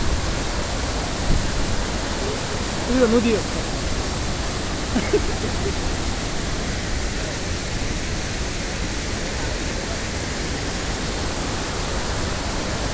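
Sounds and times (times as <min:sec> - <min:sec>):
waterfall rushing over boulders: 0:00.0 - 0:12.9.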